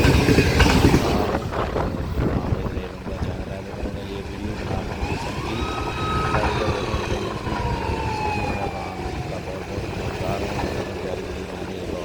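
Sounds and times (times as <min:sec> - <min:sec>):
engine whine: 0:00.0 - 0:12.0
locomotive engine rumble: 0:00.0 - 0:12.0.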